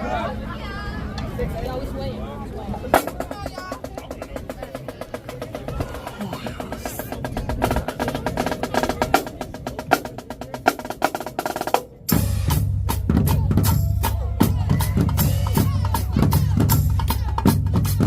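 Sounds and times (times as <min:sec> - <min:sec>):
bass drums: 0:02.9 - 0:18.0
rapid snare drum strokes: 0:02.9 - 0:18.0.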